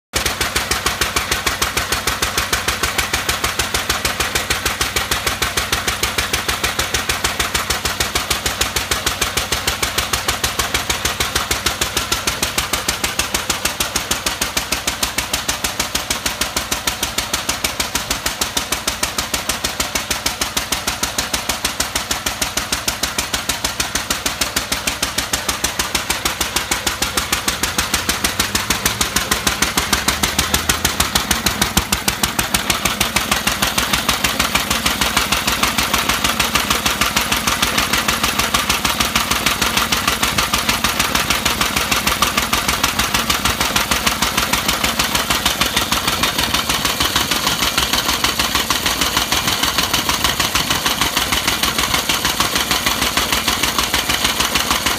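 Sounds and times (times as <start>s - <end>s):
stationary engine running: 0.2s - 54.9s.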